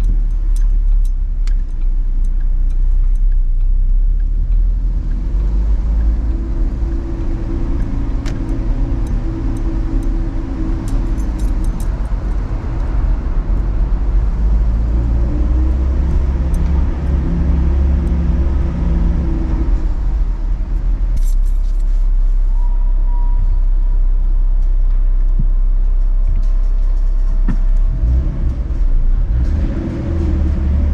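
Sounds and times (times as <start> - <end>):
car engine drone: 0.0 - 30.9
road rumble: 0.0 - 30.9.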